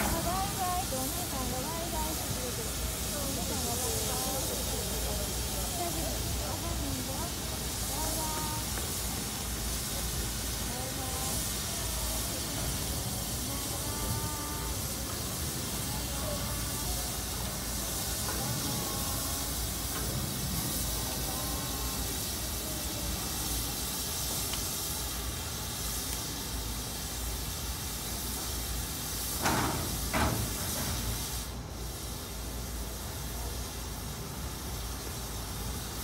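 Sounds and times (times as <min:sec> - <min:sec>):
short loud steam bursts: 0:00.0 - 0:36.0
steam locomotive hissing: 0:00.0 - 0:36.0.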